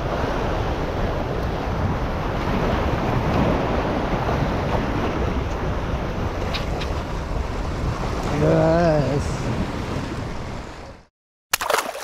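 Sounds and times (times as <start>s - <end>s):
wind over microphone: 0.0s - 11.1s.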